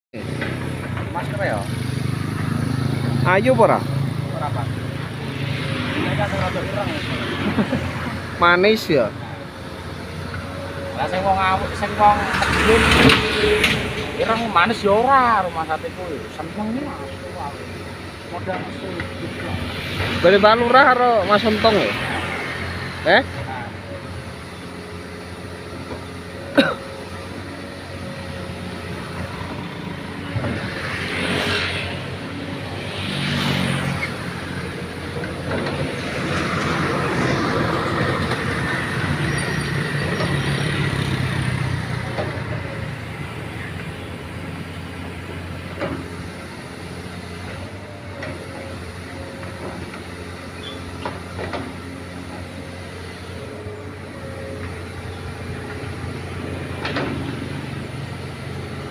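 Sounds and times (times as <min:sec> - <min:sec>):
excavator engine running: 0:00.2 - 0:58.9.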